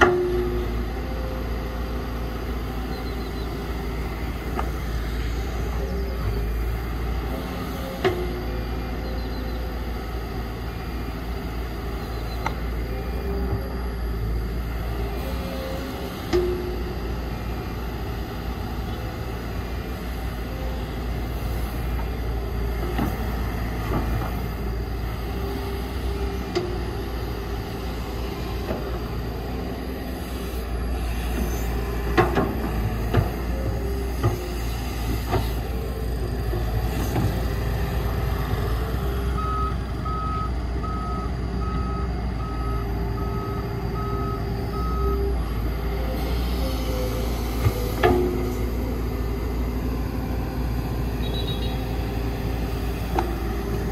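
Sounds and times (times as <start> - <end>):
reversing alarm beeping: 0.0 - 32.1, 33.1 - 53.9
heavy diesel machinery running: 0.0 - 53.9.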